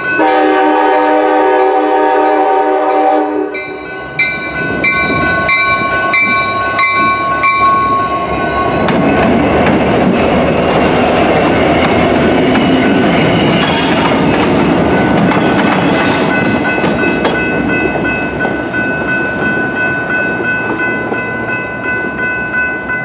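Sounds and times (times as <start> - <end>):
crossing warning bell ringing: 0.0 - 23.0
train wheels rumbling on rails: 0.0 - 23.0.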